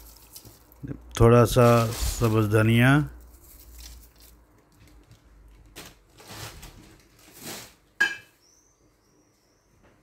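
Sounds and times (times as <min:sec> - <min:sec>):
soft kitchen rustling: 0:00.0 - 0:08.4.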